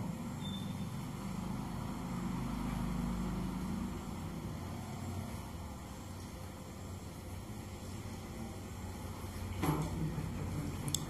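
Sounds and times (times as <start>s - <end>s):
low motor hum: 0.0s - 9.2s.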